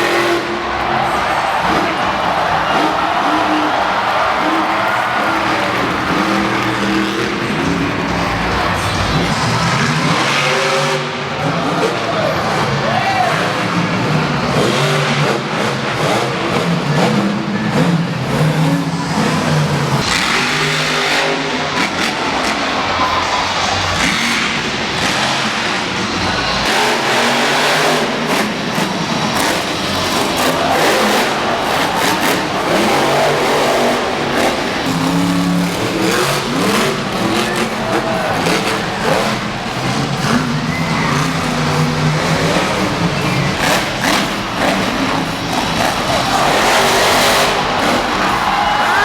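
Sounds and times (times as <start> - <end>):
truck engine revving hard: 0.0 - 49.0.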